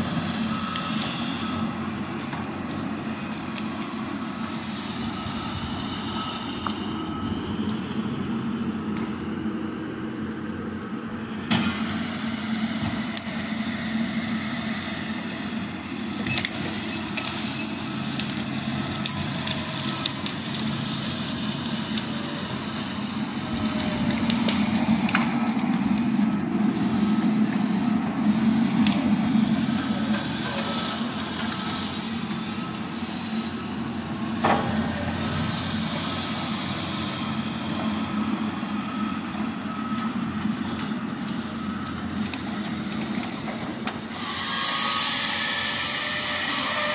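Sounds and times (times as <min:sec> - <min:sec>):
heavy diesel machines droning: 0:00.0 - 0:46.9.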